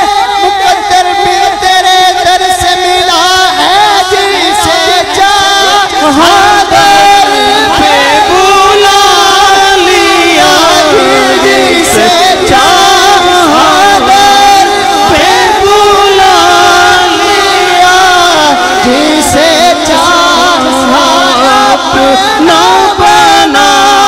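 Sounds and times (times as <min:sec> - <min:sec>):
man singing into a microphone: 0:00.0 - 0:24.0.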